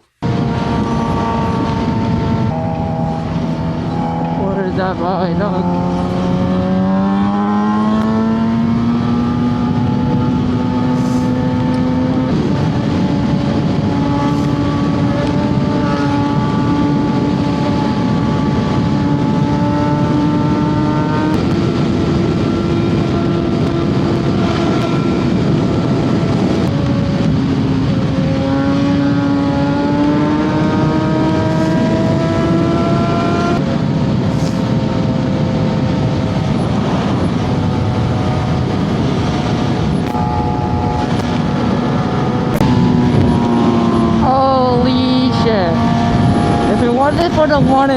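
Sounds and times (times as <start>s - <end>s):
motorcycle engine running: 0.0s - 47.9s
wind rushing: 0.0s - 47.9s.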